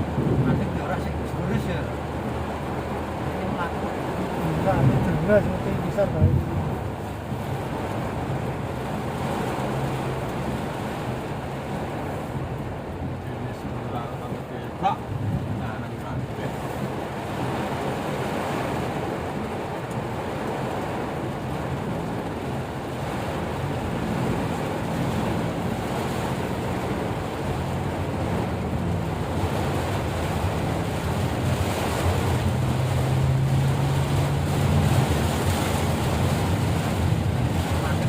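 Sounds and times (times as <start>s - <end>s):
heavy rain: 0.0s - 38.0s
low vehicle engine hum: 0.0s - 38.0s
wind: 0.0s - 38.0s.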